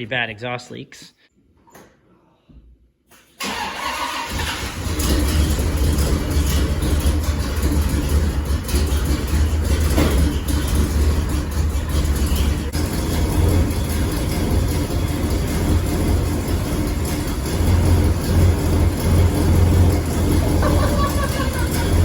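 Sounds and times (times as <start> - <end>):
rough engine rumble: 4.2 - 22.0.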